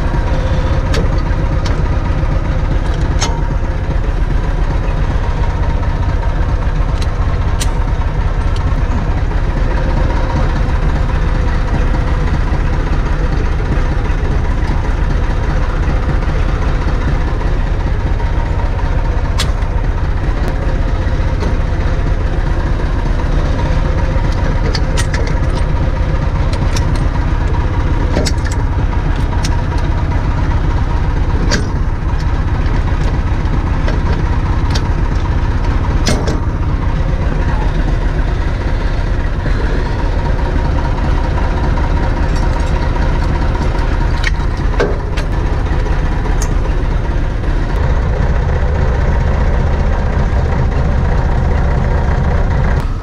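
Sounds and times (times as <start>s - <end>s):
sharp metallic clicks: 0.0s - 53.0s
tractor diesel engine idling: 0.0s - 53.0s.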